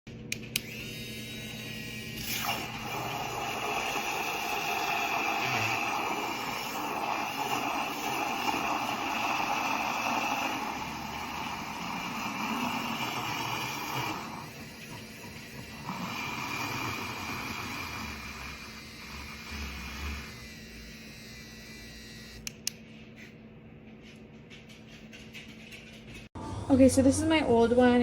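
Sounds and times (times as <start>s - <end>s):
electric milk frother whirring: 0.4s - 22.8s.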